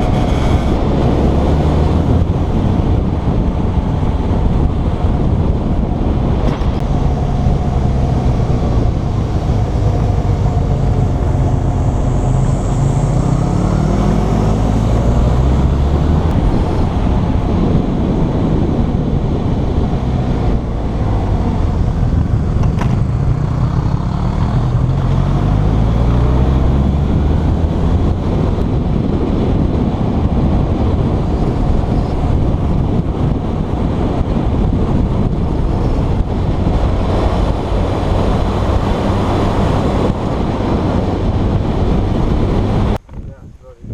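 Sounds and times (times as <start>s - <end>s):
motorcycle engine accelerating: 0.0s - 43.3s
wind and road noise: 0.0s - 43.9s.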